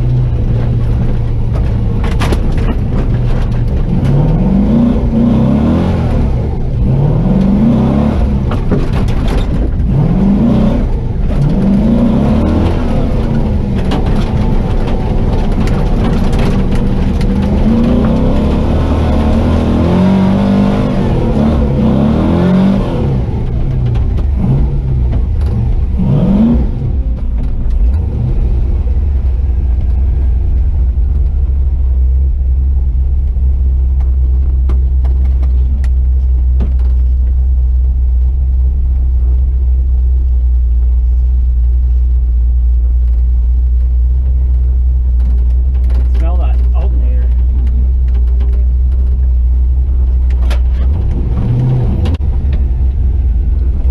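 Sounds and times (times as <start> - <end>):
truck engine revving: 0.0 - 42.0, 42.8 - 53.9.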